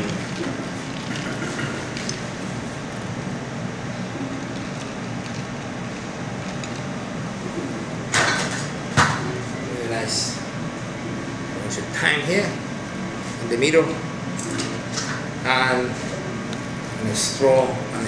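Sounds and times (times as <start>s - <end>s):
air conditioning hum: 0.0s - 18.0s.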